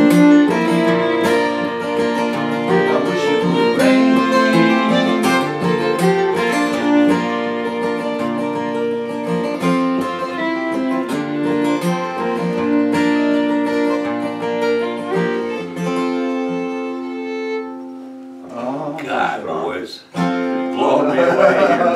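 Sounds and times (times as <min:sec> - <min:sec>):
fiddle bowing: 0:00.0 - 0:18.5, 0:20.2 - 0:21.9
acoustic guitars strumming: 0:00.0 - 0:21.9.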